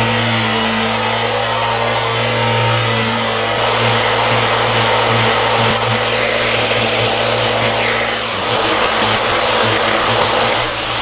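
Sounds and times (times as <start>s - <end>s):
electric sander whirring: 0.0s - 11.0s
sandpaper rasping: 0.0s - 11.0s.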